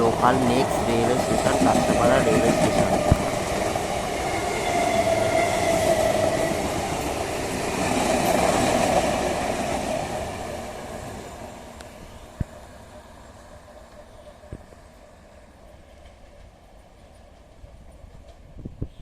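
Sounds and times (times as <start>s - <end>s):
steady train whine: 0.0s - 18.9s
train wheels rumbling on rails: 0.0s - 19.0s.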